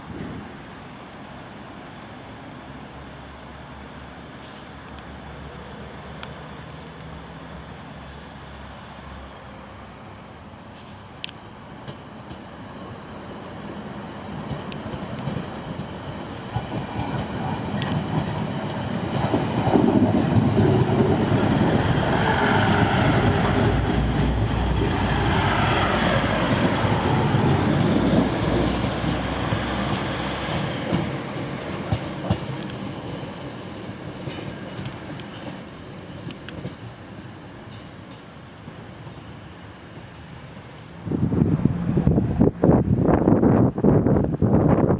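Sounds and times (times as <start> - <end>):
train passing: 0.0 - 44.9.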